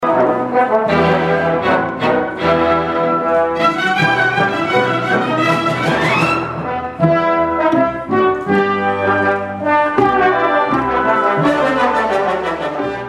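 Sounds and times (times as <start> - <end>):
brass section: 0.0 - 13.0
symphony orchestra playing: 0.0 - 13.0.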